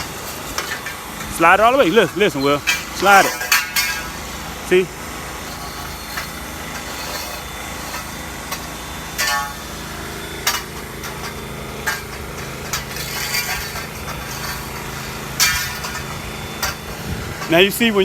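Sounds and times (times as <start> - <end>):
metal tent poles clanking: 0.0 - 4.8, 5.5 - 9.8, 10.4 - 18.0
steady low hum: 0.0 - 18.0.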